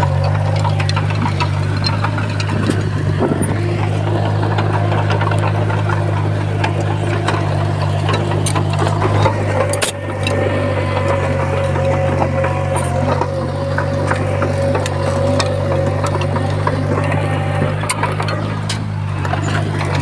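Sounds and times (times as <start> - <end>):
bulldozer diesel engine running: 0.0 - 20.0
metallic clicks and clanks: 0.0 - 20.0.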